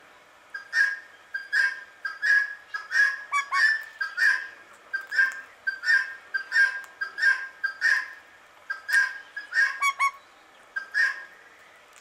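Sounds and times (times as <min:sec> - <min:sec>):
parakeet whistled calls: 0:00.6 - 0:08.2, 0:08.8 - 0:11.3.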